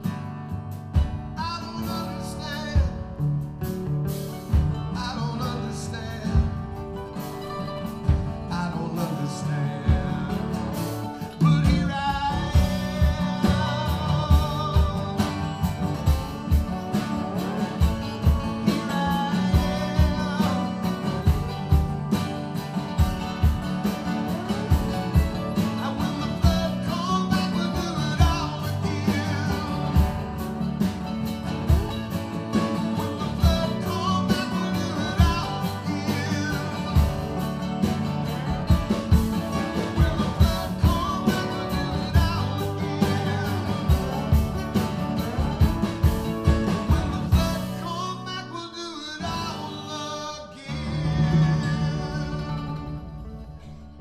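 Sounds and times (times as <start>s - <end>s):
steady drum beat: 0.0s - 48.1s
acoustic guitar strummed hard: 0.0s - 54.0s
mandolin picking: 0.0s - 54.0s
man singing: 1.0s - 3.5s, 4.4s - 53.8s.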